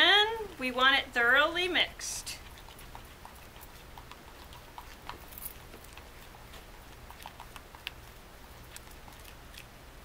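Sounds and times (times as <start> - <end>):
spoon stirring thick mixture: 0.0 - 9.8.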